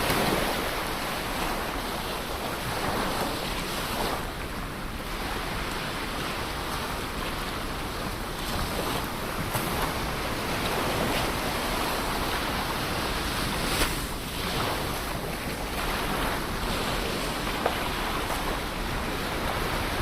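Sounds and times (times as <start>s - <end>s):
ocean waves breaking on shore: 0.0s - 20.0s.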